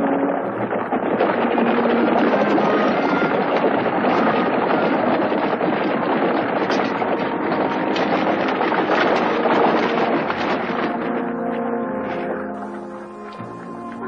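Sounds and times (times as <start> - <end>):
clatter of hooves and wheels: 0.0 - 14.0.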